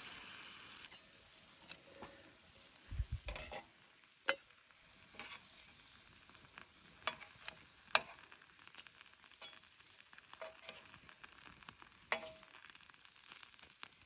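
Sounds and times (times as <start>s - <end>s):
faint steady hiss: 0.0s - 14.0s
wood fire crackling: 0.0s - 14.0s.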